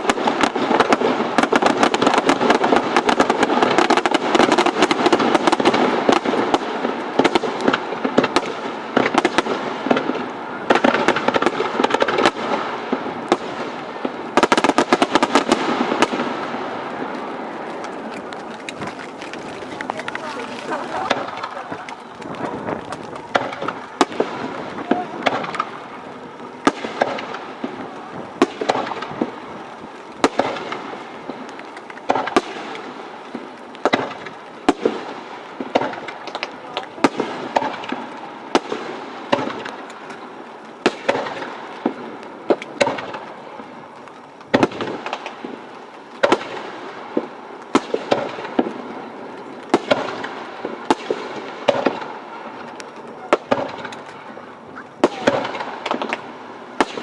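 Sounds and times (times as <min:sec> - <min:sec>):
fireworks bursting with sharp bangs: 0:00.0 - 0:57.0
fireworks crackle and echo: 0:00.0 - 0:57.0.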